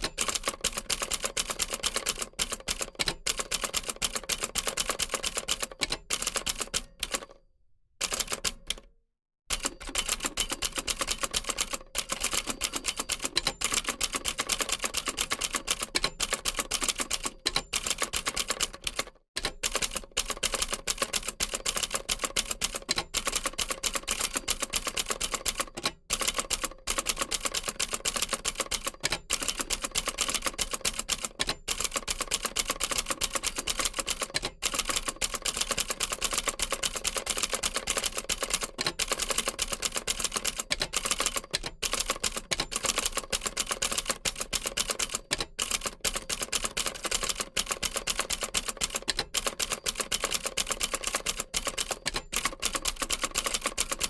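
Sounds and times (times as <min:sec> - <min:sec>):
typewriter keys clattering: 0:09.6 - 0:54.0.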